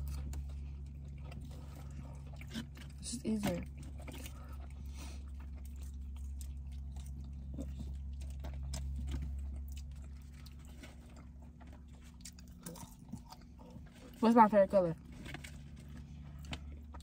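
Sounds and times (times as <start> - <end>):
chewing with mouth clicks: 0.0 - 14.2, 15.0 - 17.0
steady low hum: 0.0 - 17.0.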